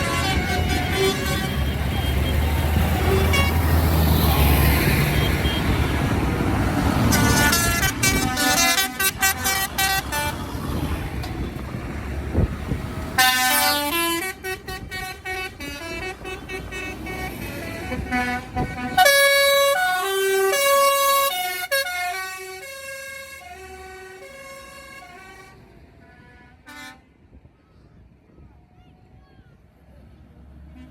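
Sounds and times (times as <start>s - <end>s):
vehicle horns tooting: 0.0s - 11.7s, 13.2s - 27.2s
passing engines rumble: 0.0s - 30.9s.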